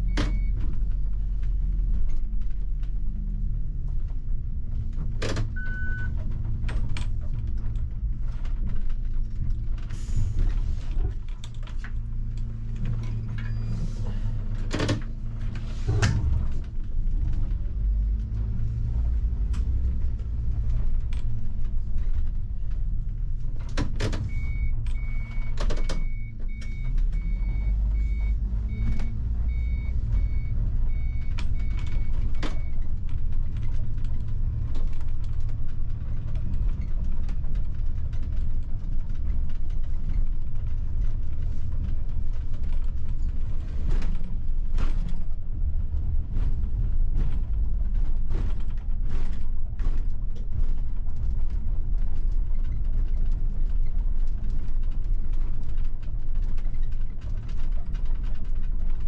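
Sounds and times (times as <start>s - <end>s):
bus engine and road rumble: 0.0s - 59.0s
rattles and knocks: 0.0s - 59.0s.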